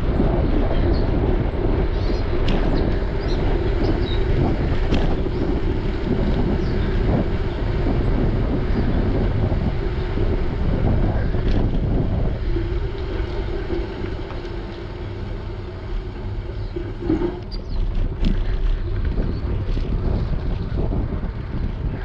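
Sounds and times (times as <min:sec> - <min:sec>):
tyre rumble on road: 0:00.0 - 0:22.0
wind buffeting microphone: 0:00.0 - 0:22.0.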